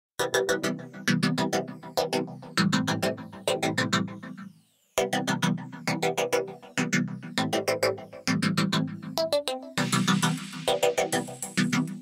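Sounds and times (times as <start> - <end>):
electronic music with pulsing synth chords: 0.2 - 12.0.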